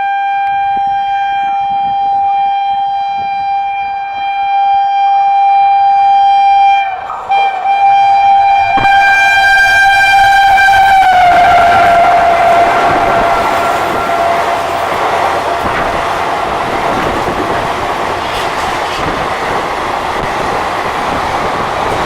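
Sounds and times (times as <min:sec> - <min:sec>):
locomotive horn: 0:00.0 - 0:19.2
train rushing: 0:00.0 - 0:22.0.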